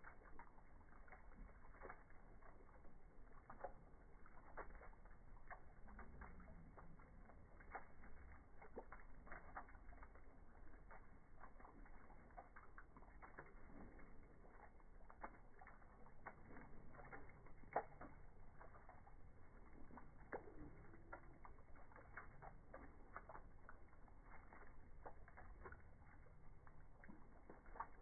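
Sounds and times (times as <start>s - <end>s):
meltwater dripping: 0.0s - 28.0s.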